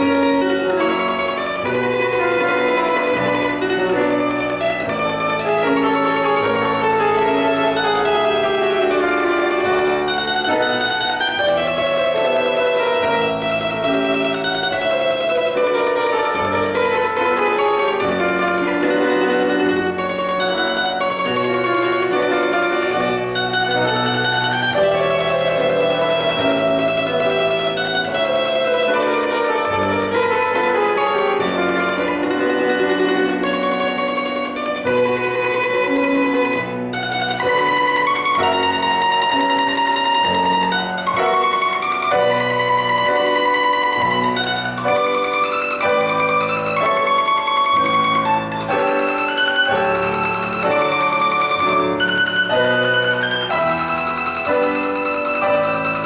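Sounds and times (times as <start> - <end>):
held lower accompaniment: 0.0 - 56.0
plucked-string melody: 0.0 - 56.0.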